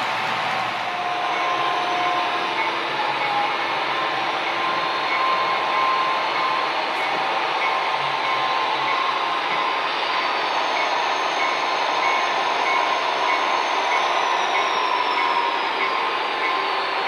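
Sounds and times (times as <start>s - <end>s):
model train diesel engine sound: 0.0s - 17.0s
held whine: 0.8s - 17.0s.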